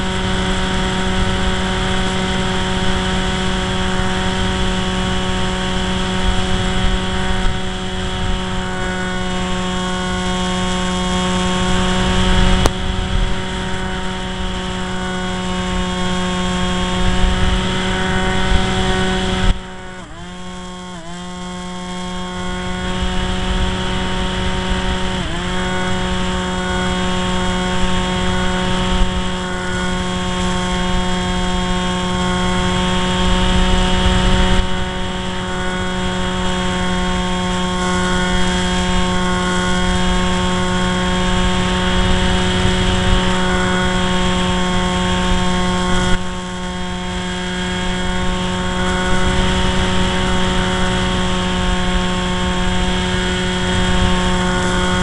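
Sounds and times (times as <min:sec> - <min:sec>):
wind buffeting microphone: 0:00.0 - 0:20.6, 0:22.0 - 0:55.0
model plane motor whining: 0:00.0 - 0:55.0.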